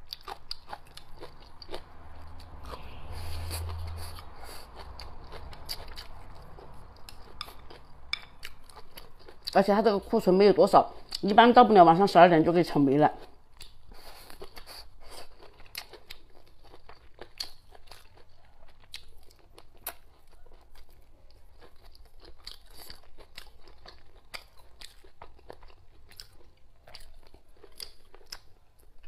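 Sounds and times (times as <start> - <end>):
person chewing crunchy food: 0.0 - 9.6, 13.2 - 29.0.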